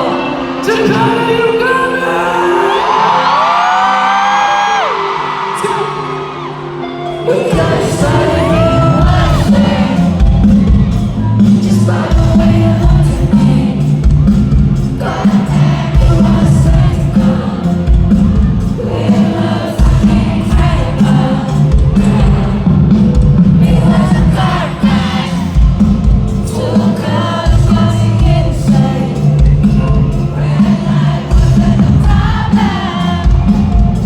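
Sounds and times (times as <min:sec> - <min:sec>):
crowd singing along: 0:00.0 - 0:34.0
person singing: 0:00.0 - 0:34.0
live band music: 0:04.6 - 0:34.0.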